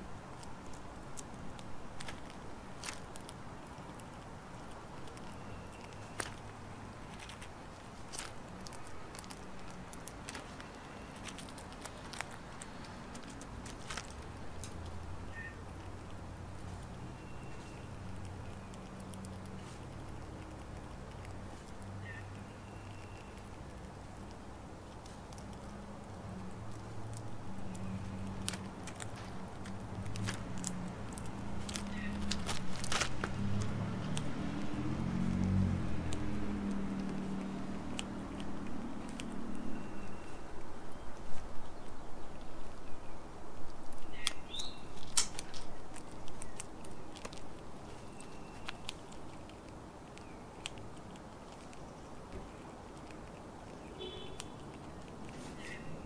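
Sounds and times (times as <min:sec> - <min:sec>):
squirrel crunching seeds and nuts: 0:00.0 - 0:56.0.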